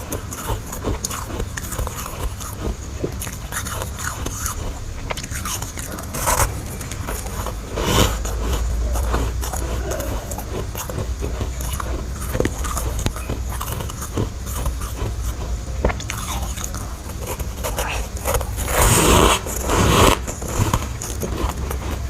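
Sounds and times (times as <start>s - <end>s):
crisp crunching chewing: 0.0s - 22.0s
low steady hum: 0.0s - 22.0s.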